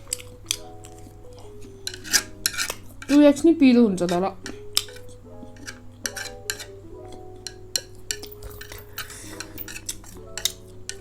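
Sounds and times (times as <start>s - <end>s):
eating sounds: 0.0s - 3.3s, 4.0s - 11.0s
soft instrumental music: 0.0s - 11.0s
utensils clicking on a bowl: 0.0s - 11.0s.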